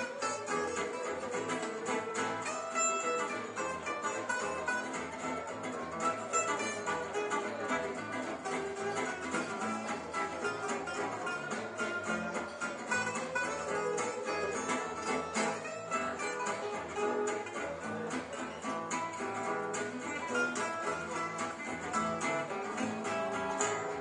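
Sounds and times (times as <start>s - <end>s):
acoustic guitars playing jazz: 0.0s - 24.0s
plucked double bass: 0.0s - 24.0s.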